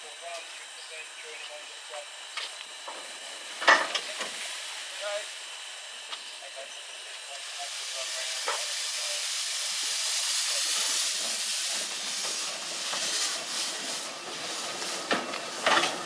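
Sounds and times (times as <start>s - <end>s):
steam locomotive hissing: 3.0s - 16.0s.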